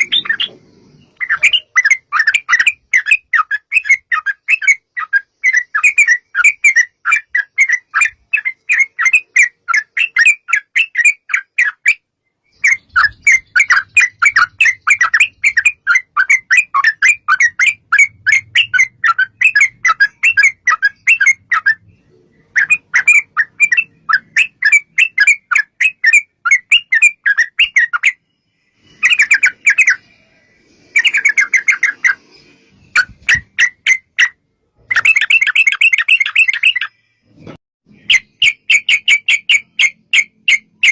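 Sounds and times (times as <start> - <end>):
bird rapid chirping song: 0.0 - 40.9.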